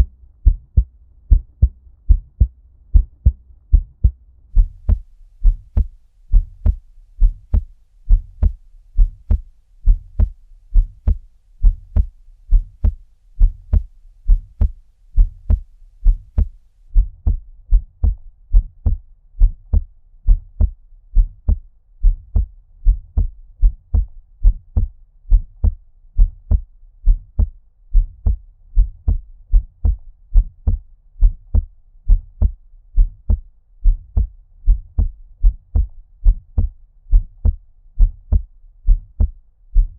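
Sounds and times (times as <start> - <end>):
muffled heartbeat thumps: 0.0 - 39.9.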